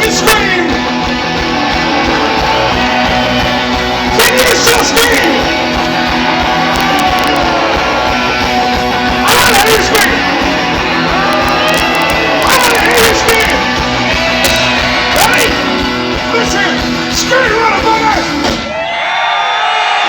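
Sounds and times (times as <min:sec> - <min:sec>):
live rock band playing: 0:00.0 - 0:18.9
crowd voices and shouting: 0:00.0 - 0:20.0.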